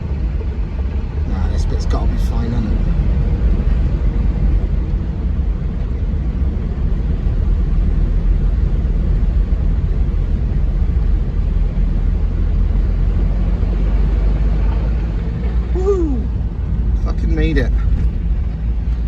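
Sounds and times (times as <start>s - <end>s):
low engine rumble: 0.0s - 19.0s
water rushing around car: 0.0s - 19.0s.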